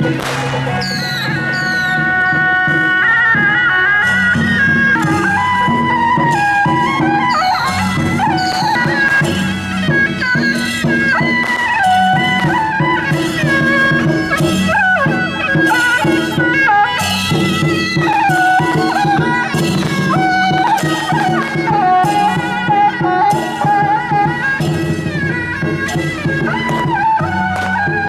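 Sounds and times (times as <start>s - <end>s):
percussion strikes: 0.0s - 28.0s
shrill reed horn melody: 0.0s - 28.0s.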